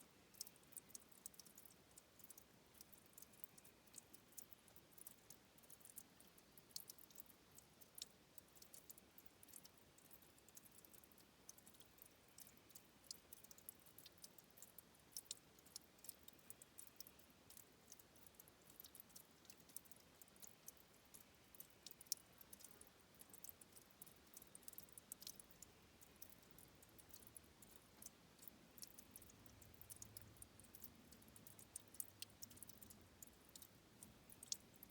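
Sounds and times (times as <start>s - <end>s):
water trickling and dripping: 0.0s - 34.9s.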